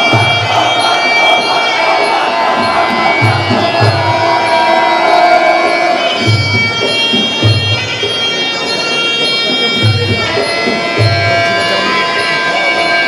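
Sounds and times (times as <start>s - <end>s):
low drum beats: 0.0s - 8.2s, 9.8s - 12.1s
reedy pipe long notes: 0.0s - 13.0s.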